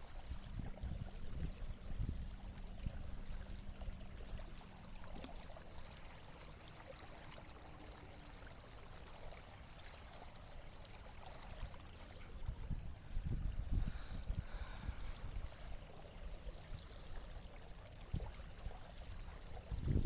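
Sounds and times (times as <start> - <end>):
water trickling and lapping: 0.0 - 20.0.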